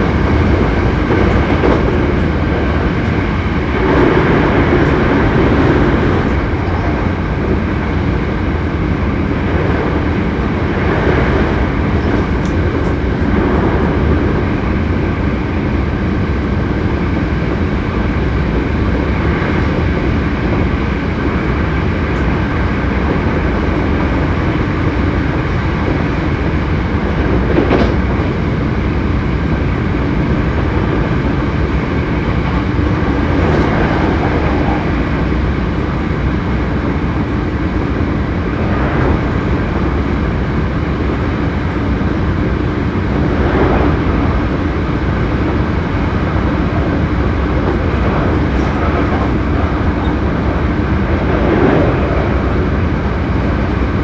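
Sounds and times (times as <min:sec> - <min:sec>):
electric train running: 0:00.0 - 0:54.0.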